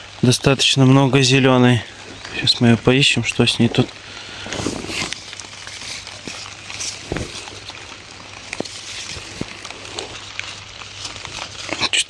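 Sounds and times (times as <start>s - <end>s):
leaves and plastic sheeting rustling: 0.0s - 12.0s.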